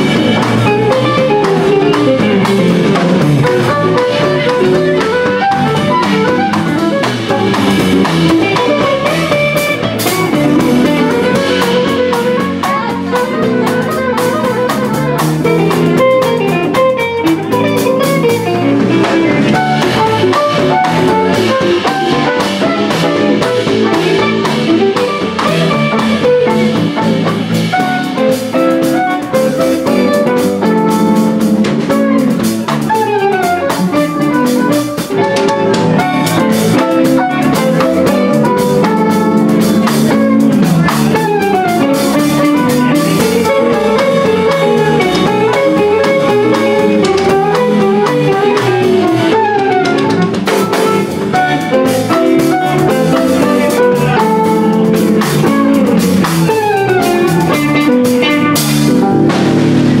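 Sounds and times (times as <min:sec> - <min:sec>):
drum kit: 0:00.0 - 1:00.0
electric guitar: 0:00.0 - 1:00.0.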